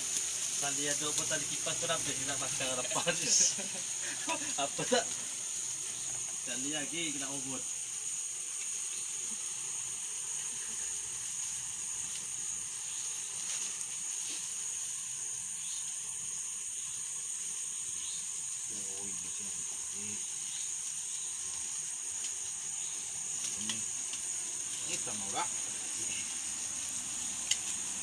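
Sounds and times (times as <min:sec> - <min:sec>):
skewers sizzling over charcoal: 0:00.0 - 0:28.0.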